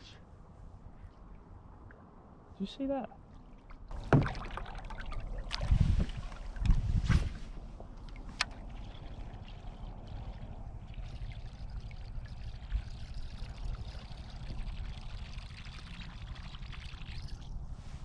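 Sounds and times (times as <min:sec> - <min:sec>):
water trickling and lapping: 0:00.8 - 0:18.0.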